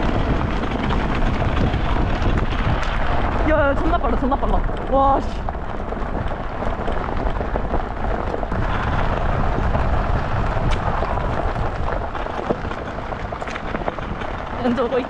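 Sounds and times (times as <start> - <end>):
cart wheels rumbling and rattling: 0.0 - 15.0
wind on microphone: 0.0 - 15.0.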